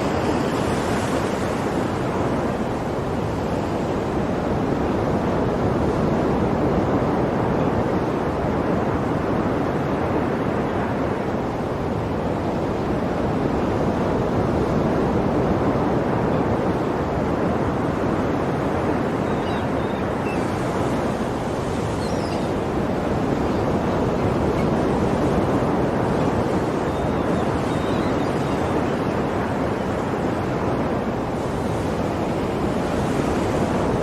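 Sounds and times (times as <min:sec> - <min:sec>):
ocean surf rushing: 0:00.0 - 0:34.0.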